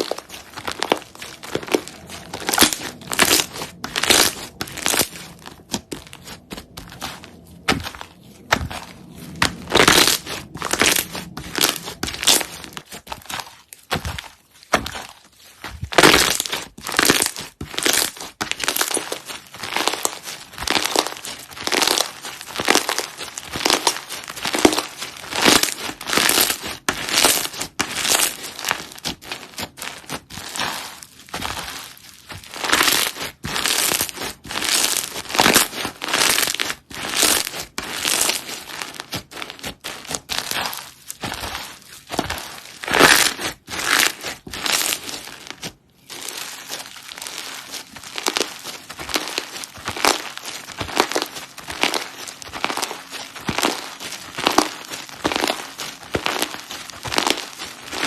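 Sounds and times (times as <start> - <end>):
slime squished by hand: 0.0 - 58.0.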